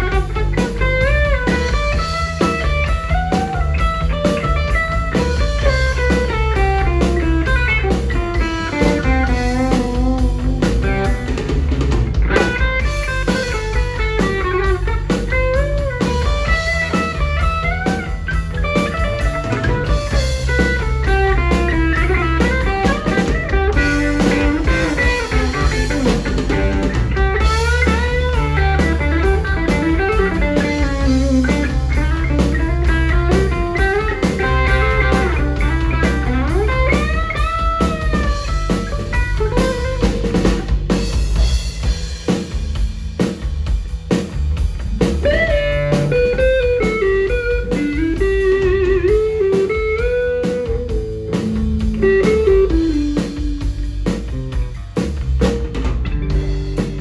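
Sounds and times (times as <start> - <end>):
electric guitar lead with bends: 0.0 - 42.4, 44.6 - 57.0
bass guitar: 0.0 - 57.0
drum kit: 0.0 - 57.0.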